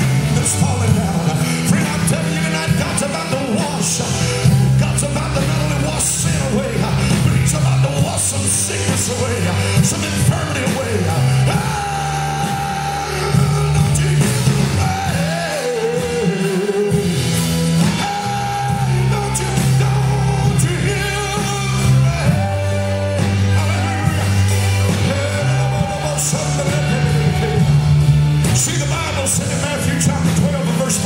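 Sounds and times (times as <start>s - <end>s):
drums and cymbal strikes: 0.0s - 31.0s
held bass chords: 0.0s - 31.0s
live praise band playing: 0.0s - 31.0s
man singing: 0.0s - 31.0s.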